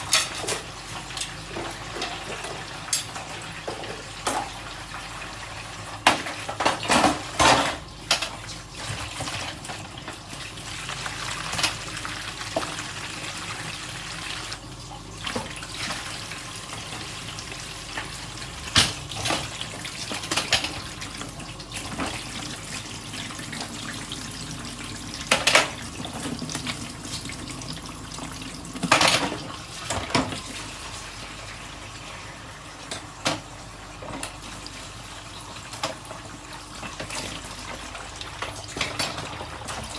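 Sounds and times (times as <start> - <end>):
tap water running: 0.0 - 39.9.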